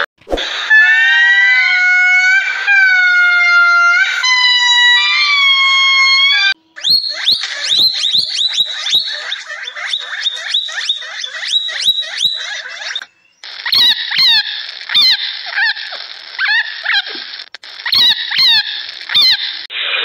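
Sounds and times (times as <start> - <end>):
monkeys whistling calls: 0.5 - 17.1
rapid high falling chirps: 0.5 - 19.7.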